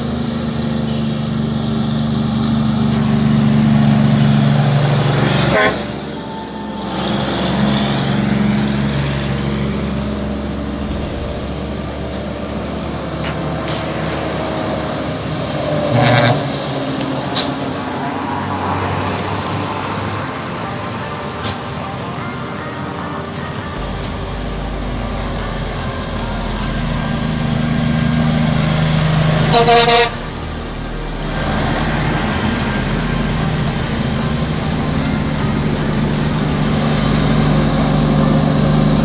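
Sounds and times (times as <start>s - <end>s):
diesel truck engines climbing: 0.0s - 39.0s
road noise: 0.0s - 39.0s.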